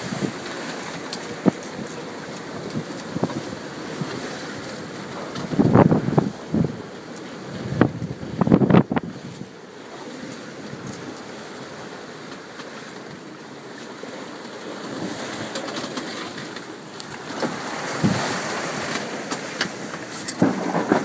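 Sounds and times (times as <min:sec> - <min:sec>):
sea rushing along boat hull: 0:00.0 - 0:21.0
wind: 0:00.0 - 0:21.0.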